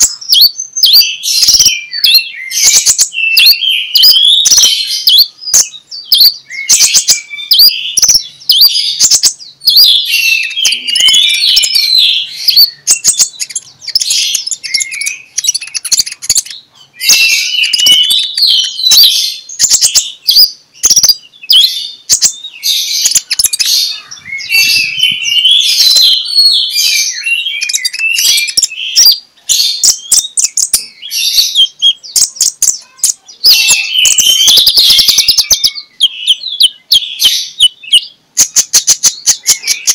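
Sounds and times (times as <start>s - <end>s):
sunbird chirps and trills: 0.0s - 39.9s.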